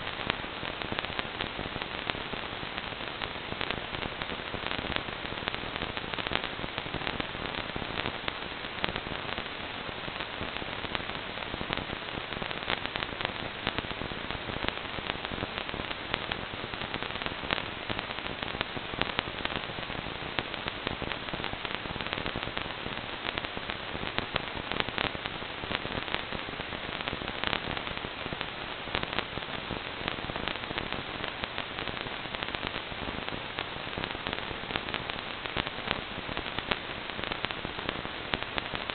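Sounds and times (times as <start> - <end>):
static hiss with crackles: 0.0 - 38.9.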